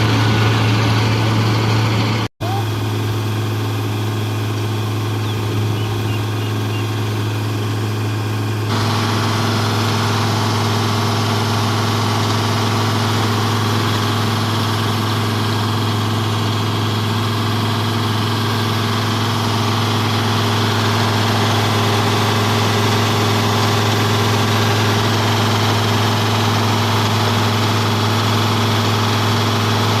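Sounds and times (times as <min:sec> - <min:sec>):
combine harvester engine hum: 0:00.0 - 0:30.0.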